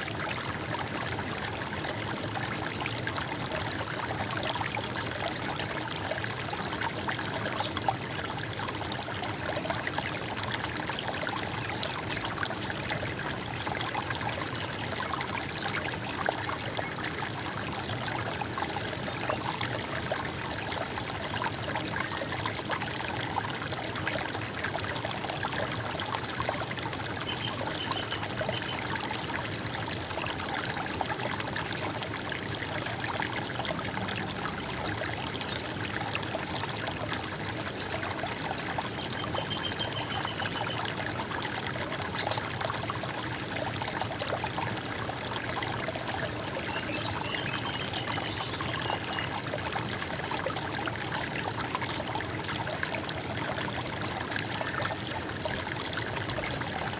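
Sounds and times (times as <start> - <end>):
small water splashes: 0.0 - 56.9
stream trickling: 0.0 - 56.9.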